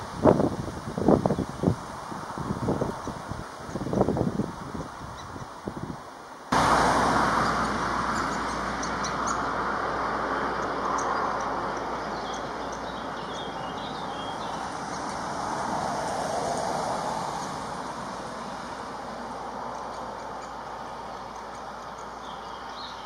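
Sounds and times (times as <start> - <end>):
road traffic hum: 0.0 - 23.0.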